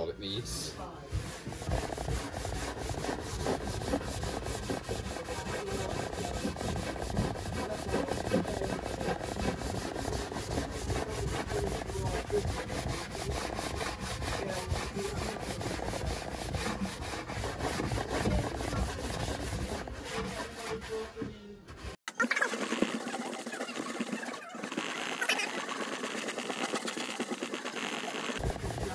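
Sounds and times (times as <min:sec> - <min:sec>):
brush scrubbing wooden worktop: 0:00.8 - 0:28.9.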